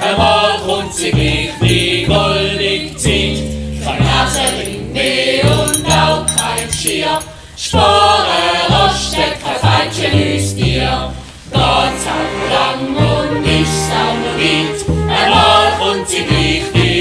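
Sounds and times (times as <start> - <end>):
group singing: 0.0 - 17.0
instrumental backing music: 0.1 - 17.0.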